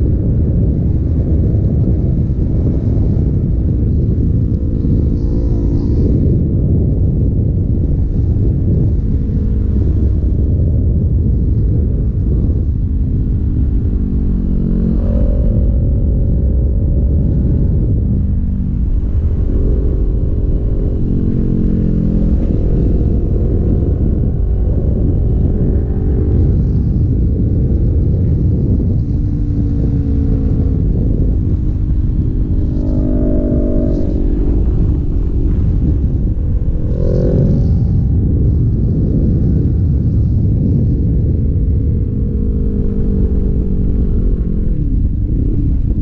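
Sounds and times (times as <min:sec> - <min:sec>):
motorcycle engine running: 0:00.0 - 0:46.0
wind rumble: 0:00.0 - 0:46.0.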